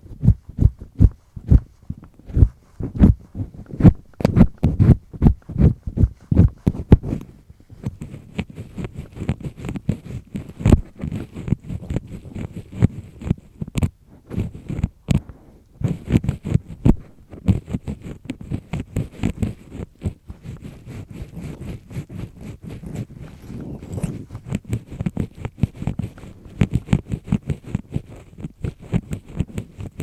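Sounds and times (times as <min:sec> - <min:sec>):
ear pick scraping inside ear: 0:00.0 - 0:30.0.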